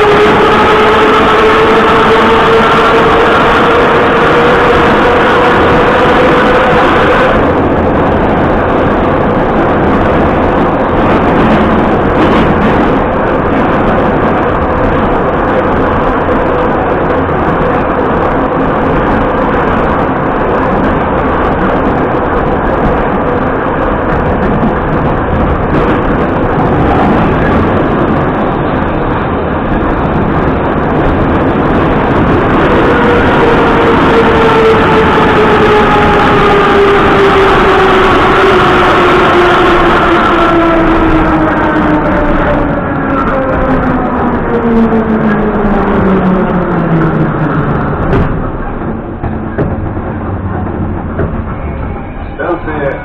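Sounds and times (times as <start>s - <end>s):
train running in tunnel: 0.0s - 53.0s.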